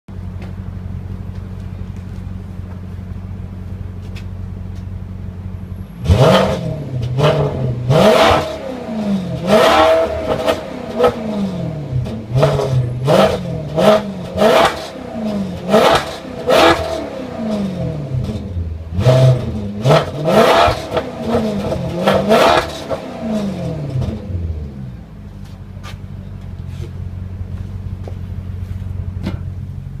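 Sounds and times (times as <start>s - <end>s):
car exhaust idling and revving: 0.1s - 30.0s.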